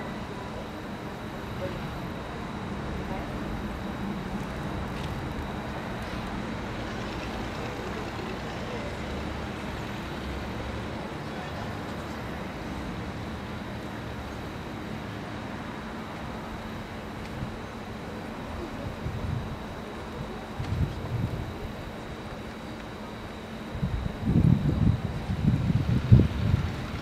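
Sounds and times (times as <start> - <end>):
faint indistinct voices: 0.0 - 27.0
low traffic rumble: 0.0 - 27.0
thin steady whine: 0.0 - 27.0.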